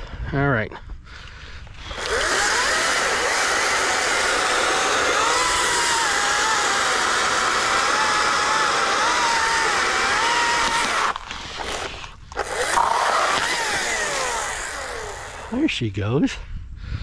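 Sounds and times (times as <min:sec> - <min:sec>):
electric chainsaw whine: 0:01.6 - 0:15.8
chainsaw cutting through log: 0:01.7 - 0:15.7.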